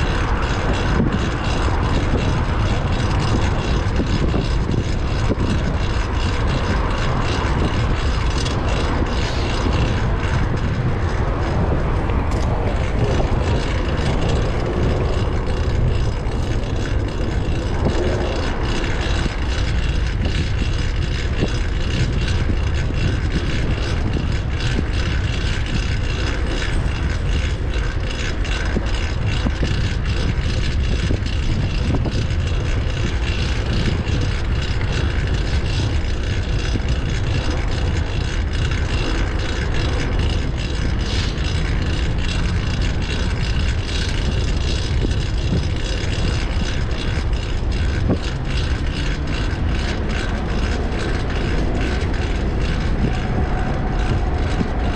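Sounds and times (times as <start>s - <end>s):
bike drivetrain running: 0.0s - 54.9s
wind rumble on microphone: 0.0s - 54.9s.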